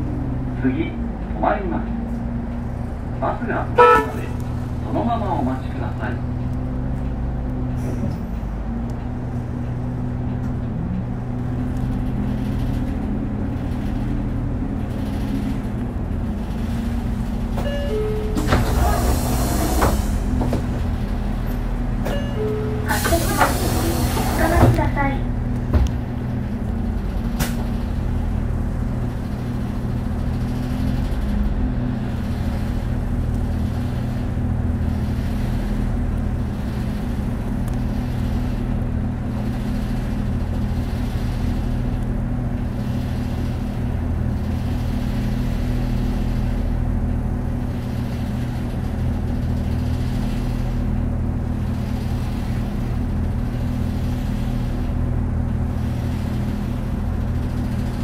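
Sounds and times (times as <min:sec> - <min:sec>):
bus diesel engine droning: 0:00.0 - 0:58.0
road noise: 0:00.0 - 0:58.0.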